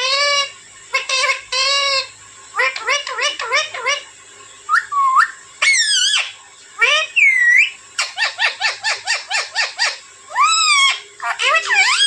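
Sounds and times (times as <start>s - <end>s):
parakeet calling: 0.0s - 4.1s, 4.7s - 12.0s.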